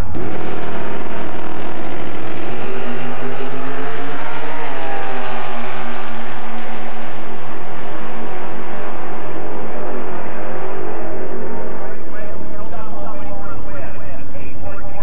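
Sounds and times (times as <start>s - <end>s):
drag racing car engine revving: 0.0s - 14.9s.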